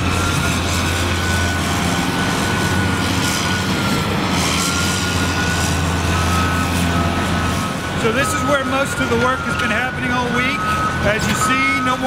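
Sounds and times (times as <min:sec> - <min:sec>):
excavator diesel drone: 0:00.0 - 0:12.0
high hydraulic whine: 0:00.0 - 0:12.0.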